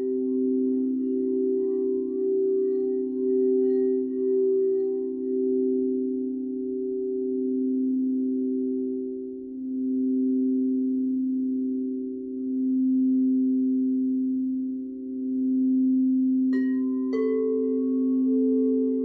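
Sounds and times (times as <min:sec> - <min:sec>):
crystal singing bowls ringing: 0:00.0 - 0:19.0.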